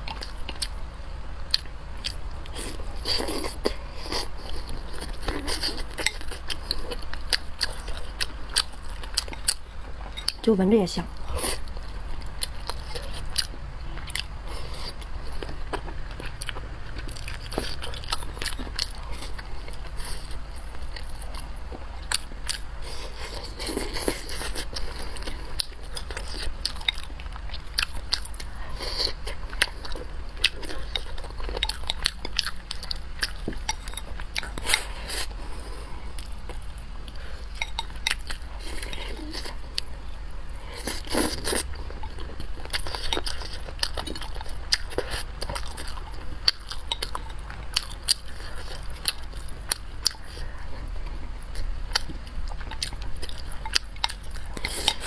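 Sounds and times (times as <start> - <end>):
person chewing: 0.0 - 0.9, 1.5 - 10.5, 11.1 - 55.0.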